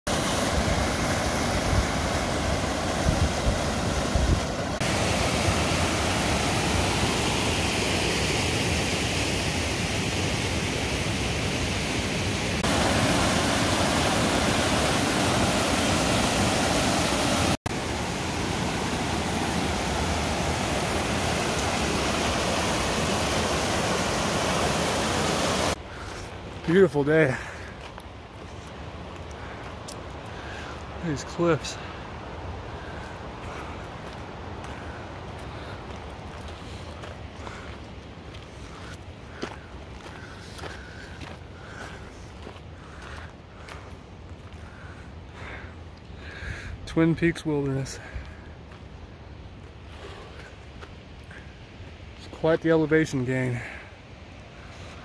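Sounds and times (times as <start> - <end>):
creek rushing over boulders: 0.1 - 55.0.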